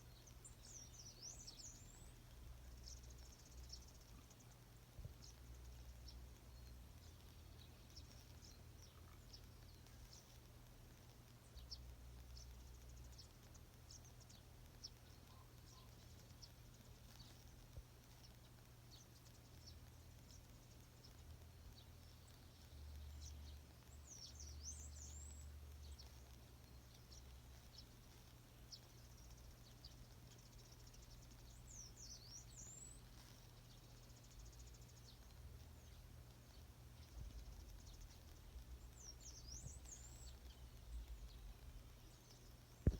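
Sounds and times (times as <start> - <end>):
birds chirping: 0.0 - 42.9
low steady rumble: 0.0 - 42.9.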